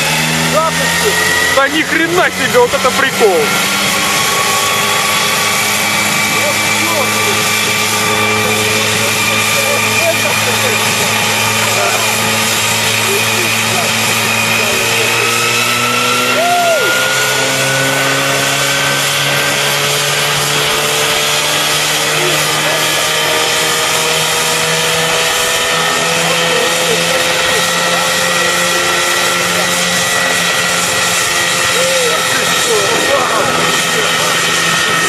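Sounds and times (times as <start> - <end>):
helicopter rotor spinning: 0.0 - 35.0
small engine running at high speed: 0.0 - 35.0.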